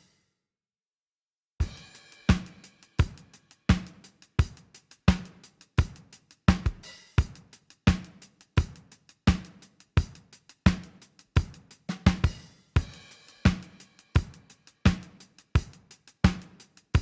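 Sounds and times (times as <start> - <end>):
drum kit playing a beat: 1.6 - 17.0.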